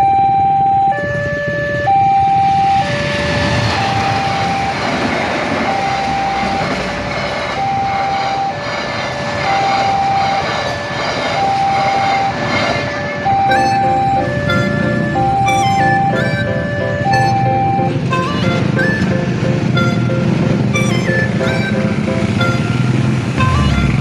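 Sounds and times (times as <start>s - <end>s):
crossing alarm two-tone signal: 0.0s - 24.0s
train wheels rumbling on rails: 0.0s - 24.0s.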